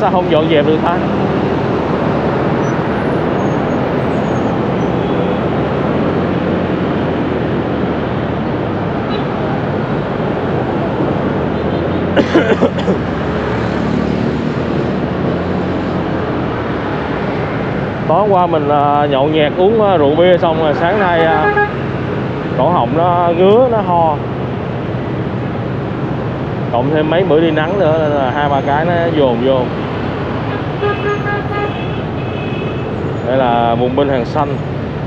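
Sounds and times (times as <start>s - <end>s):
traffic engines and road noise: 0.0s - 35.0s.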